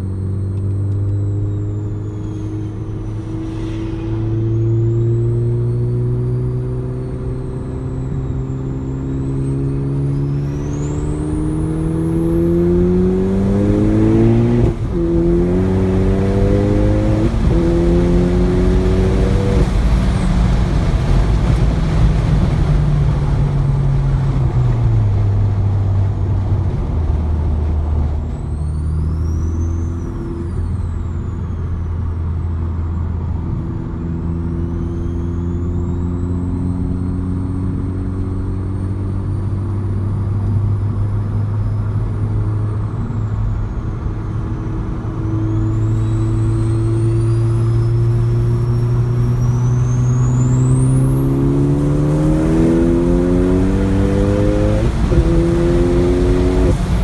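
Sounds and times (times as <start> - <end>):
car engine accelerating: 0.0 - 57.0
high turbo whine: 0.0 - 57.0.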